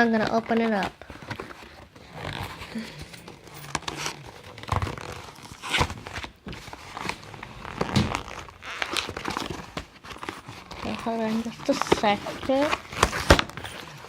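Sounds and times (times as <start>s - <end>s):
packaging crackling and rustling: 0.0s - 14.0s
packaging tearing: 0.7s - 14.0s.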